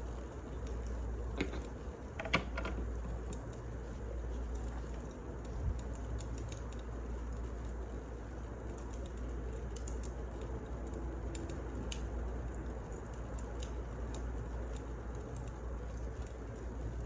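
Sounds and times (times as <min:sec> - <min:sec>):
low fire rumble: 0:00.0 - 0:02.2, 0:02.8 - 0:17.0
wood fire crackling: 0:00.0 - 0:02.2, 0:02.8 - 0:17.0.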